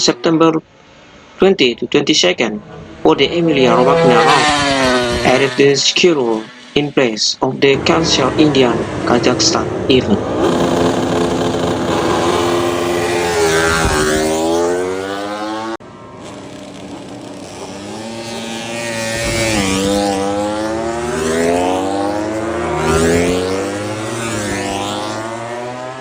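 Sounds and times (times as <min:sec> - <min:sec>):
racing motorcycle engines revving: 0:00.0 - 0:00.6, 0:02.7 - 0:07.0, 0:07.6 - 0:26.0.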